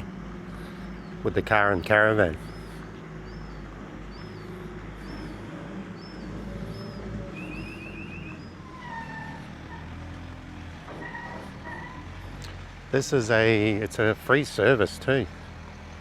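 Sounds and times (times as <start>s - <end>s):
birds chirping and trilling: 0.0s - 15.4s
low engine hum: 0.0s - 16.0s.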